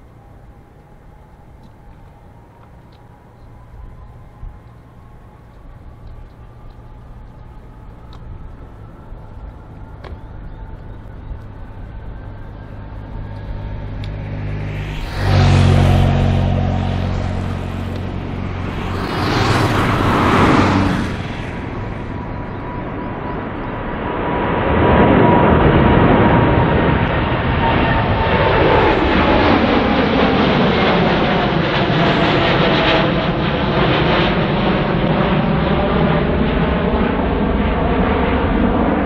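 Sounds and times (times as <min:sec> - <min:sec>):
jet engines at takeoff power: 0:00.0 - 0:39.0
road vehicles passing: 0:00.0 - 0:39.0.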